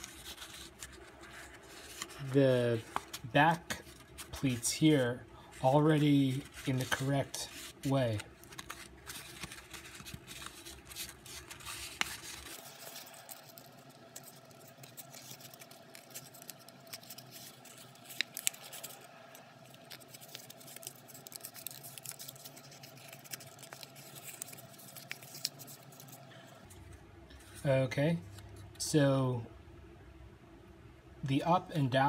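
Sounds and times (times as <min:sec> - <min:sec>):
stiff paper rustling and crinkling: 0:00.0 - 0:28.6.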